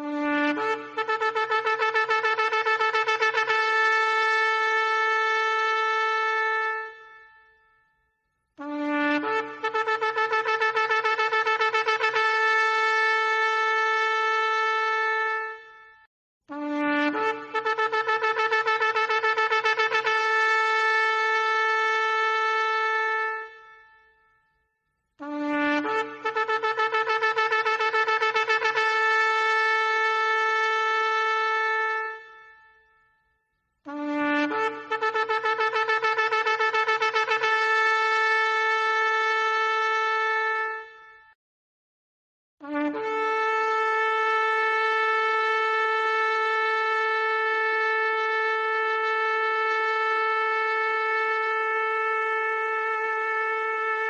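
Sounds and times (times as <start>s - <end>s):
shofar blasts: 0.0s - 7.7s, 8.6s - 24.3s, 25.2s - 33.1s, 33.9s - 41.3s, 42.6s - 54.0s.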